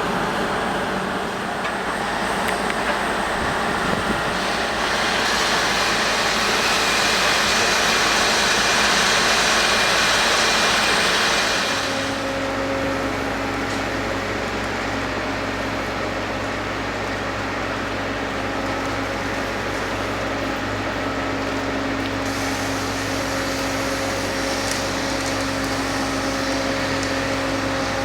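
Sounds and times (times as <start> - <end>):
drilling rig diesel engine rushing: 0.0 - 14.4, 17.4 - 28.0.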